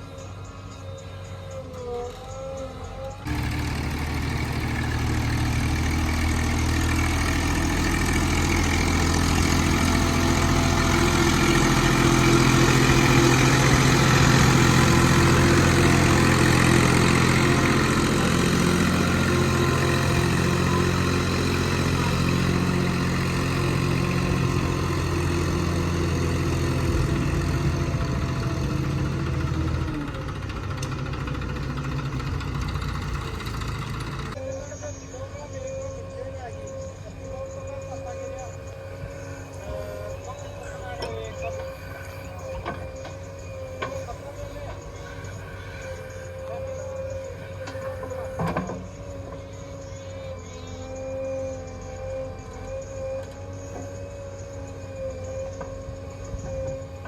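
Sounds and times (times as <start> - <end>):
heavy diesel engine running: 2.8 - 57.0.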